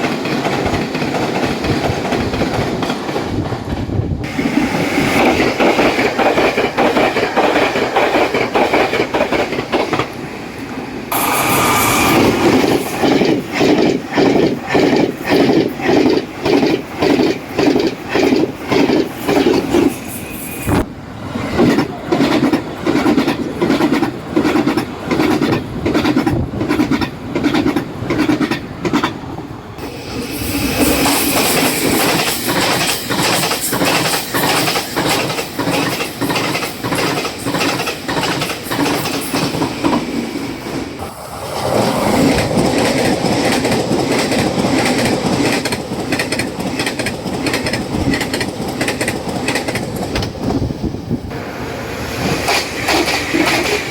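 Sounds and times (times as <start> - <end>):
train wheels clacking on rail joints: 0.0 - 41.0, 41.6 - 51.3, 52.1 - 53.9
wheel and rail hiss: 4.2 - 23.1, 29.6 - 53.9.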